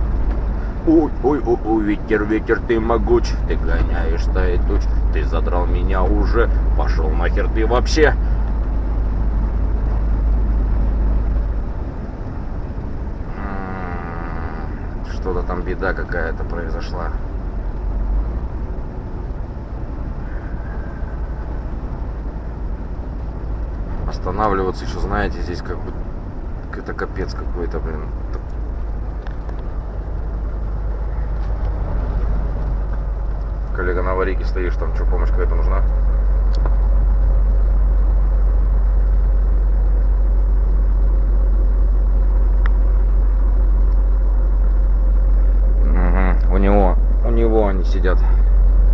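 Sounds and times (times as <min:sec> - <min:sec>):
faint steady hum: 0:00.0 - 0:48.9
truck engine and road noise: 0:00.0 - 0:48.9.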